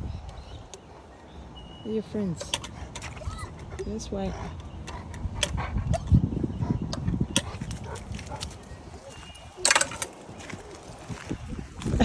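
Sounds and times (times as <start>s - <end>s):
dogs rumbling: 0.0s - 12.0s.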